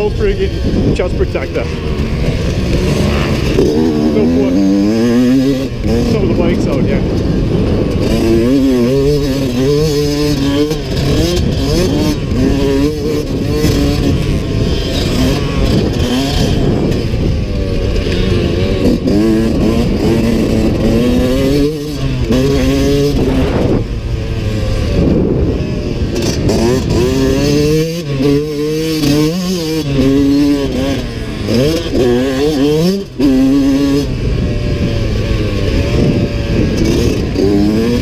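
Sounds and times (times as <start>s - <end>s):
two-stroke engine revving: 0.0s - 38.0s.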